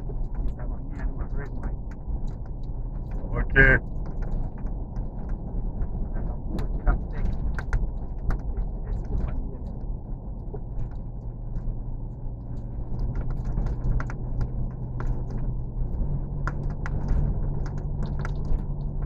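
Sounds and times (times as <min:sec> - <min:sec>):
light clicks and rattles: 0:00.0 - 0:19.0.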